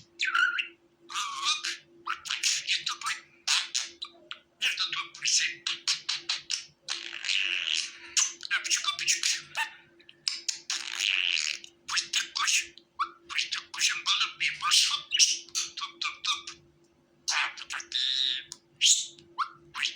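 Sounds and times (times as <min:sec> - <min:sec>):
budgerigar chattering: 0:00.1 - 0:16.6, 0:17.3 - 0:19.9.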